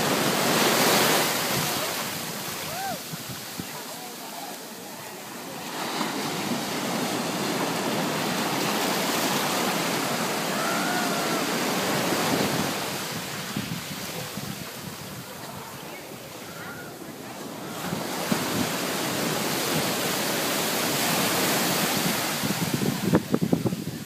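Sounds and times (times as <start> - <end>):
ocean surf washing over sand: 0.0 - 24.0.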